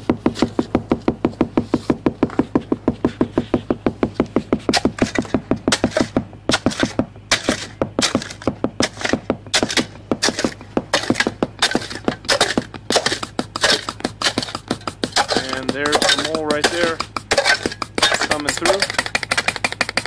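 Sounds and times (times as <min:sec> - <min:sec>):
pneumatic tool hammering in soil: 0:00.0 - 0:20.0
steady low hum: 0:00.0 - 0:20.0.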